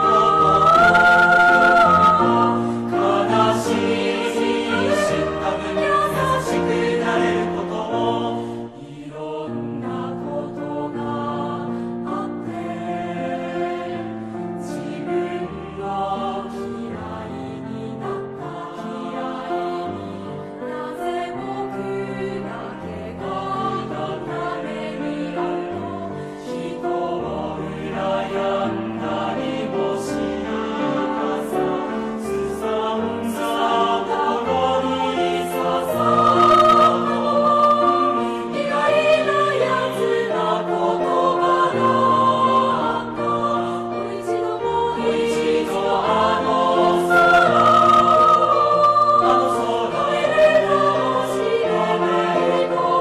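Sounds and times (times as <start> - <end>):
choir singing: 0.0 - 53.0.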